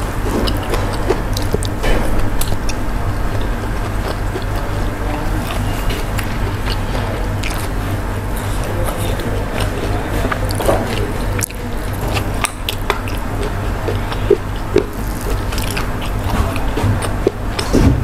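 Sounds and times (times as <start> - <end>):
chewing food: 0.0 - 18.0
low hum: 0.0 - 18.0
wet mouth clicks: 0.3 - 17.7.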